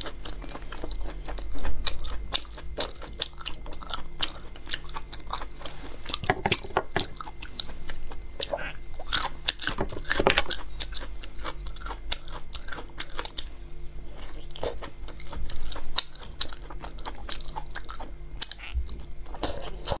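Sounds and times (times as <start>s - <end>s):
wet chewing and biting: 0.0s - 20.0s.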